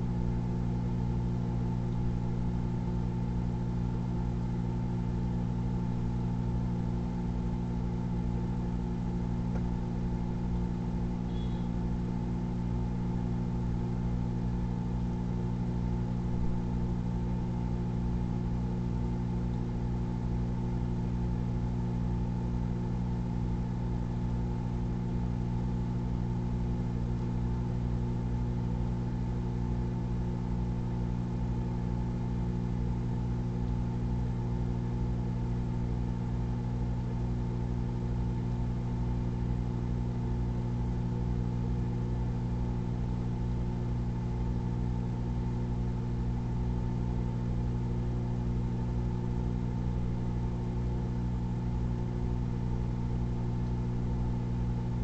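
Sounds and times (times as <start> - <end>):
microwave oven humming: 0.0 - 55.0.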